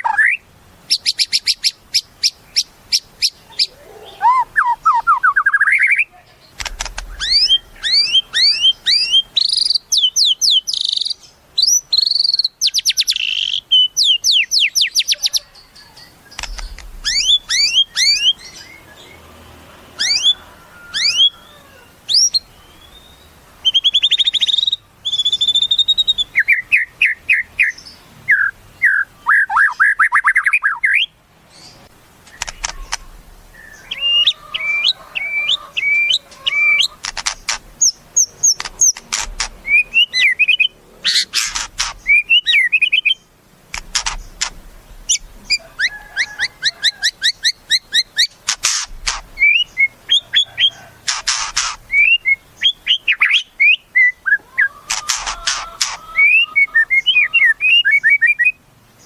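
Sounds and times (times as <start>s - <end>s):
bird singing: 0.0s - 19.3s, 20.0s - 58.6s.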